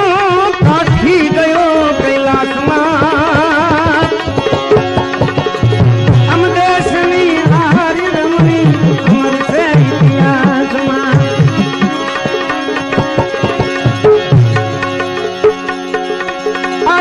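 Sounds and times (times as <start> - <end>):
sustained melodic accompaniment: 0.0 - 17.0.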